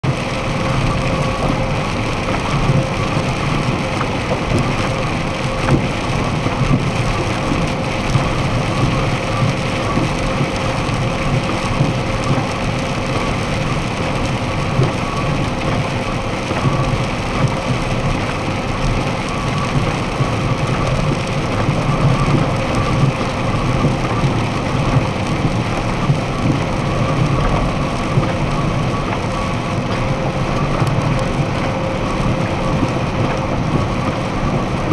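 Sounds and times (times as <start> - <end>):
rain against windshield: 0.0 - 34.9
truck engine drone: 0.0 - 34.9.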